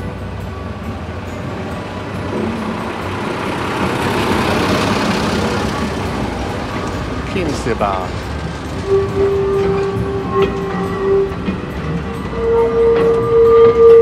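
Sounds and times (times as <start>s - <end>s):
small locomotive passing slowly: 0.0s - 14.0s.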